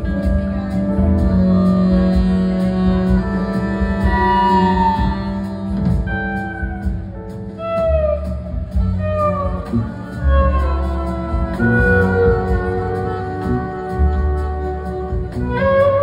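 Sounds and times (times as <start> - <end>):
deep bass notes: 0.0 - 16.0.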